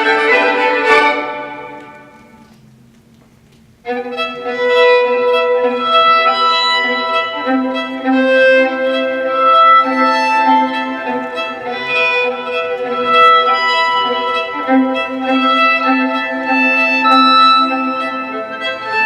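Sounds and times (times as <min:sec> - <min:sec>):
violin bowed notes: 0:00.0 - 0:02.5, 0:03.8 - 0:19.0.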